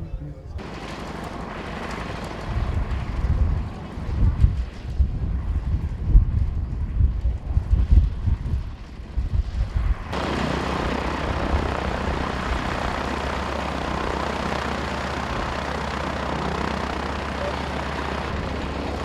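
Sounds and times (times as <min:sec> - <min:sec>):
biplane engine and propeller running: 0:00.0 - 0:19.0
wind buffeting microphone: 0:00.0 - 0:19.0.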